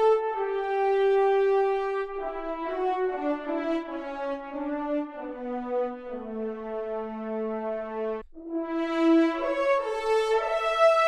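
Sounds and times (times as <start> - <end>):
french horn ensemble: 0.0 - 11.0.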